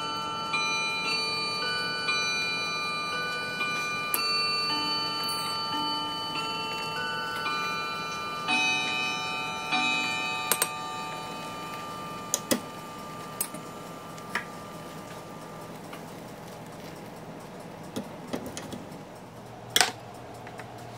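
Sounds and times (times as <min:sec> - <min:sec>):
cuckoo clock chiming: 0:00.0 - 0:20.9.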